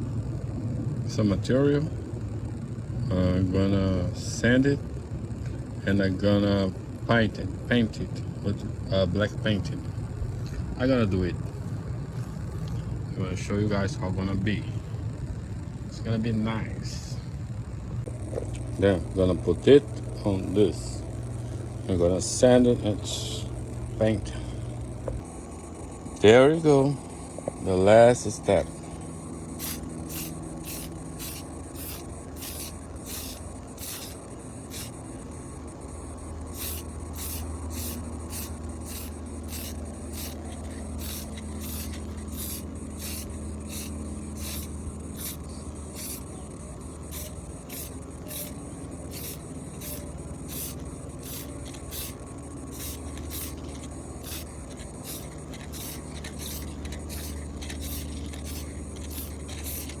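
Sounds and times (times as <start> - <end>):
steady low hum: 0.0 - 60.0.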